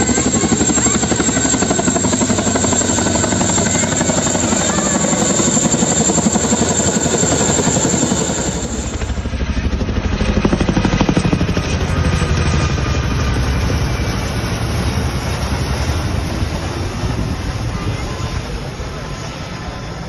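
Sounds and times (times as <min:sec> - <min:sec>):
helicopter engine noise: 0:00.0 - 0:20.0
helicopter rotor beating: 0:00.0 - 0:20.0.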